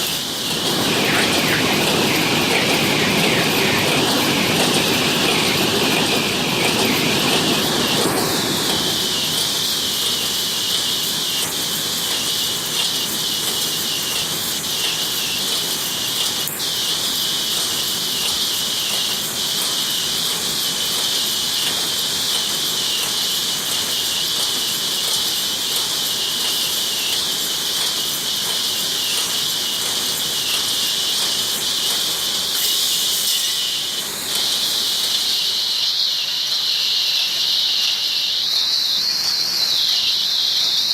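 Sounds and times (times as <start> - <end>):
welding machine hissing: 0.0 - 40.9.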